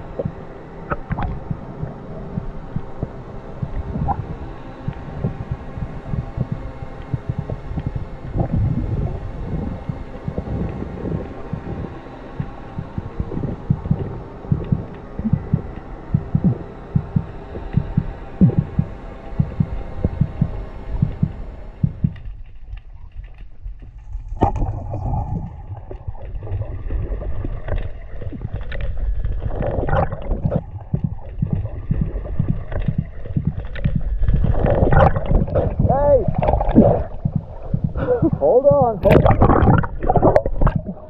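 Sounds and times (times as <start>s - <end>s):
rushing water: 0.0s - 22.1s, 24.4s - 41.0s
low underwater thumps: 0.0s - 22.4s, 24.2s - 41.0s.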